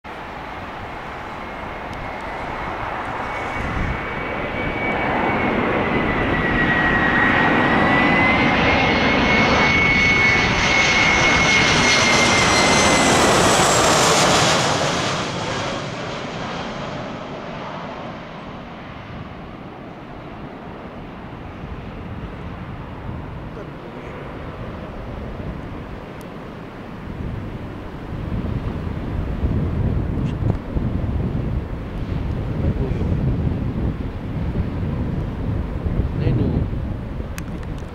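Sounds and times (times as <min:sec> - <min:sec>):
jet airliner flying past: 0:00.1 - 0:37.9
steady high engine whine: 0:00.1 - 0:37.9.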